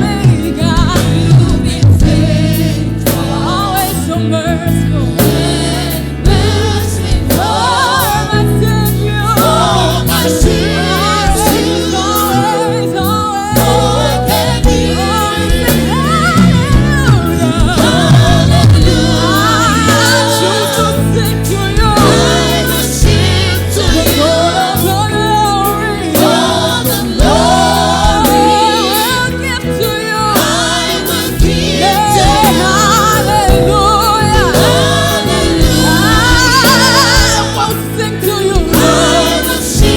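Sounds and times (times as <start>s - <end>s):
gospel choir singing: 0.0s - 39.9s
low bass notes: 0.0s - 39.9s.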